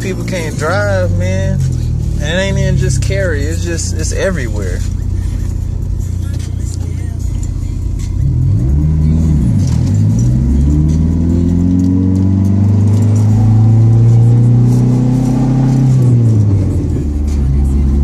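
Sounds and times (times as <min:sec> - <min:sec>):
turbocharged car engine revving: 0:00.0 - 0:18.0.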